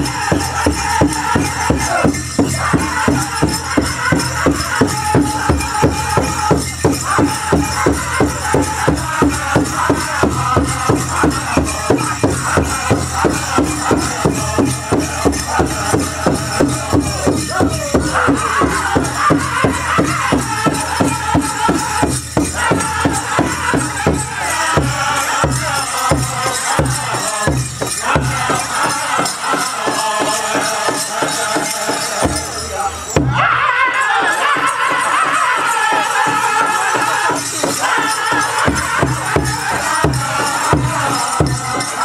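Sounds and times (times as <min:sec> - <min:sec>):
big drum beating: 0:00.0 - 0:33.4, 0:36.2 - 0:41.9
voices singing: 0:00.0 - 0:42.0.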